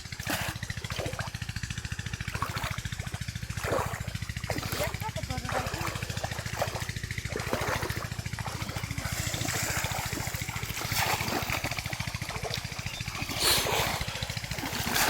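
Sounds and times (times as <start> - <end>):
rapid low pulsing drone: 0.0 - 15.0
water splashing in pond: 0.0 - 15.0.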